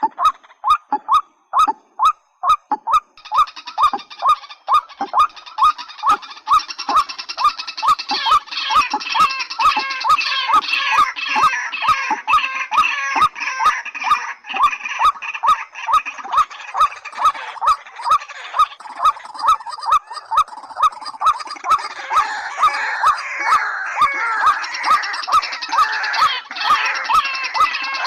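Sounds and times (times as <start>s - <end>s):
bird chattering calls: 0.0s - 28.0s.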